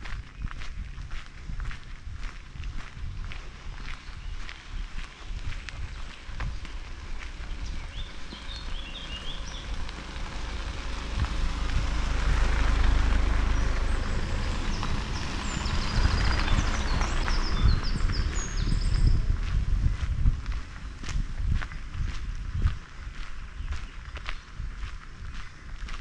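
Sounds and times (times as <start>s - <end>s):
birds chirping: 0.0s - 26.0s
cars driving on dirt track: 0.0s - 26.0s.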